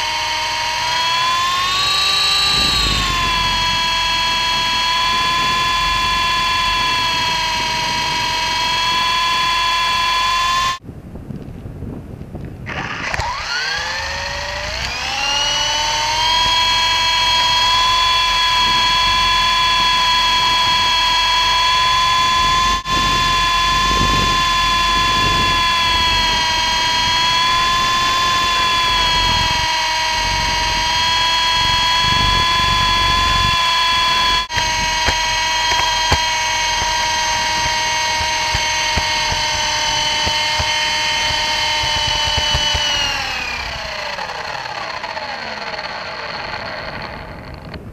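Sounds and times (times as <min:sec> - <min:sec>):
helicopter motors whining: 0:00.0 - 0:10.8, 0:12.6 - 0:47.9.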